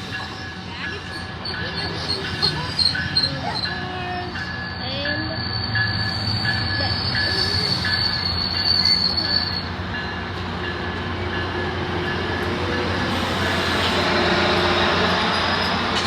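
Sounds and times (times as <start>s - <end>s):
train wheels squealing: 0.0s - 10.2s, 12.5s - 16.0s
train rumbling: 0.0s - 16.0s.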